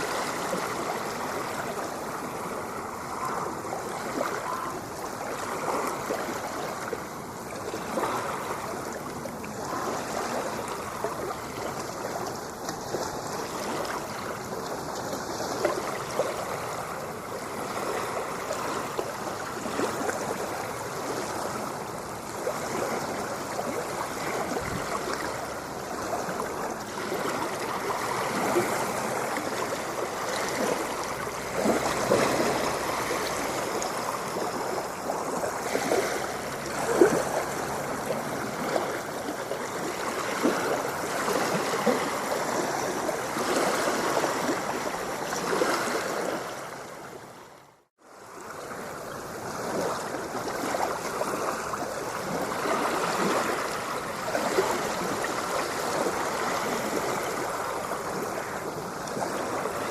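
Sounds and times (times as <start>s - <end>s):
ocean water lapping and splashing: 0.0s - 59.9s.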